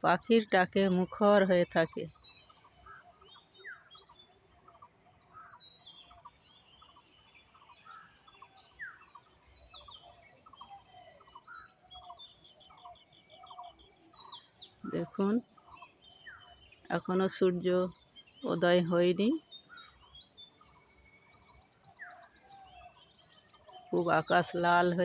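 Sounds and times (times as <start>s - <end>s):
birds chirping and whistling: 0.0s - 25.0s.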